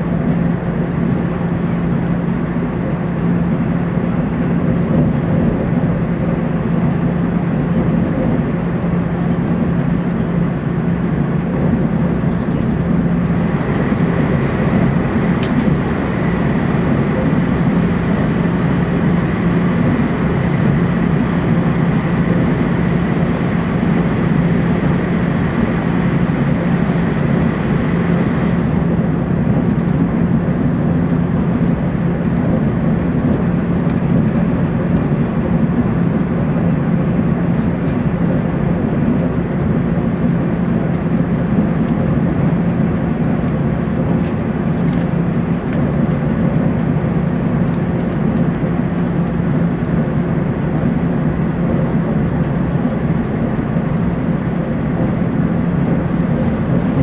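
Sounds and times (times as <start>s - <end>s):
steady low hum: 0.0s - 57.0s
train running rumble: 0.0s - 57.0s.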